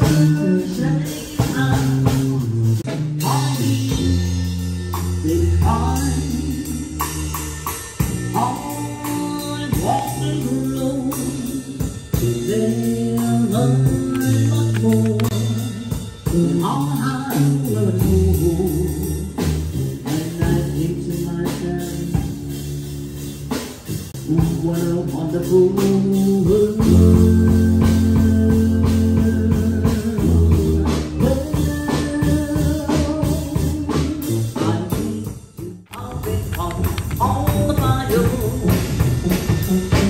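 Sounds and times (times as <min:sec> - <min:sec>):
person singing: 0:00.0 - 0:07.6, 0:08.3 - 0:22.8, 0:24.2 - 0:40.0
drums: 0:00.0 - 0:40.0
low bass line: 0:00.0 - 0:40.0.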